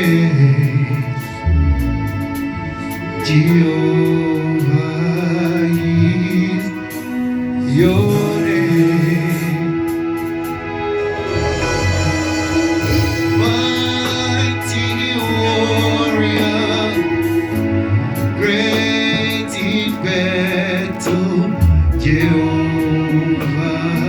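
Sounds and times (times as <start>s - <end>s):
gospel worship music with singing: 0.0s - 24.0s.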